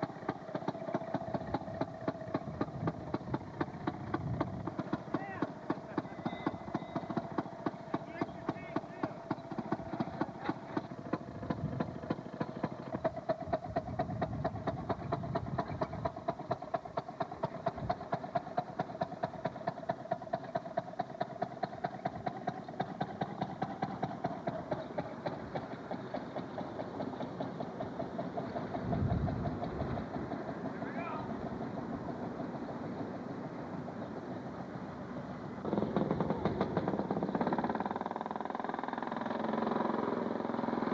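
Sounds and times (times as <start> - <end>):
two-stroke engine exhaust popping: 0.0 - 40.9.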